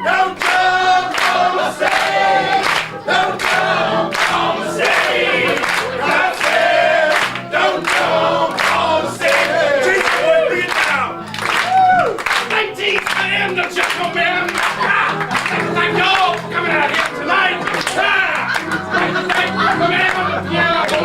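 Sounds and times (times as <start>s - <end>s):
group singing gospel song: 0.0s - 11.6s, 12.5s - 21.0s
piano accompaniment: 0.0s - 21.0s.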